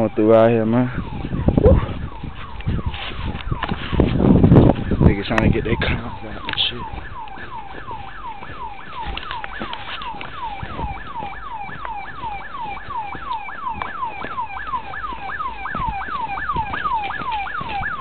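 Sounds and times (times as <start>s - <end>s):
electronic siren whooping: 0.0s - 18.0s.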